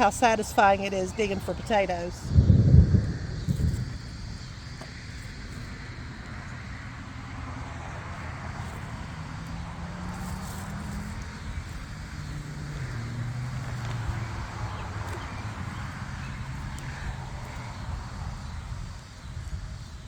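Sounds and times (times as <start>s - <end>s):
distant engine droning: 0.0s - 20.0s.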